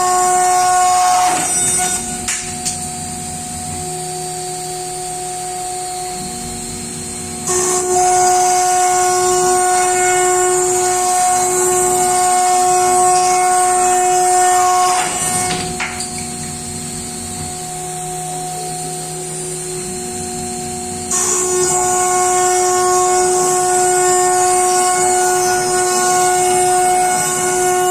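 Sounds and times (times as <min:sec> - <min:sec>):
router spindle whine: 0:00.0 - 0:27.9.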